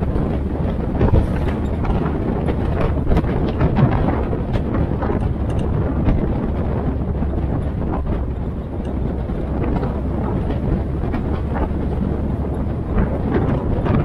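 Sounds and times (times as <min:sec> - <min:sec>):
jeep engine running: 0:00.0 - 0:14.0
light clicks and rattles: 0:00.0 - 0:14.0
road rumble: 0:00.0 - 0:14.0
wind on microphone: 0:00.0 - 0:14.0.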